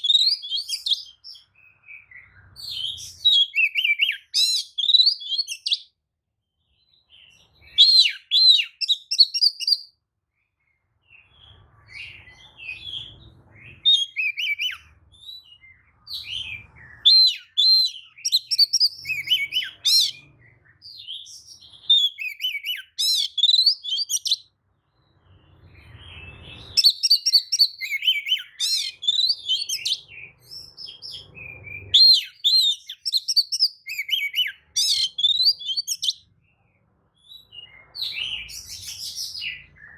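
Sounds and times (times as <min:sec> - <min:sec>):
bird singing whistles and trills: 0:00.0 - 0:06.0, 0:06.6 - 0:10.0, 0:10.6 - 0:36.3, 0:37.2 - 0:39.9.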